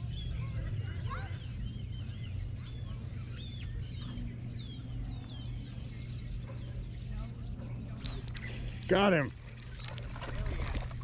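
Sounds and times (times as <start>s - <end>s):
birds chirping and whistling: 0.0s - 10.6s
low steady rumble: 0.0s - 11.0s.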